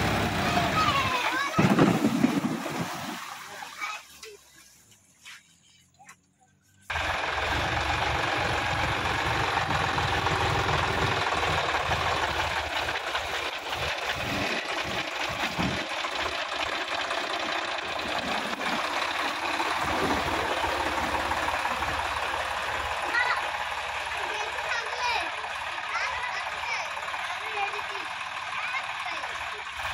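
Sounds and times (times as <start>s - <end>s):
tractor diesel engine running: 0.0s - 3.1s, 5.7s - 29.9s
tyres churning water and mud: 0.0s - 5.7s, 6.9s - 29.9s.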